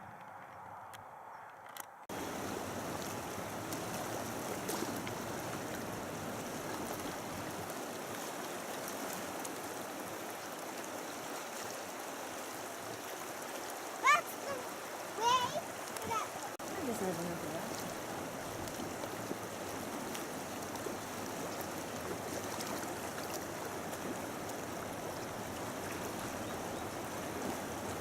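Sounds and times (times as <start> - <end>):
stream water rushing: 2.1 - 28.0.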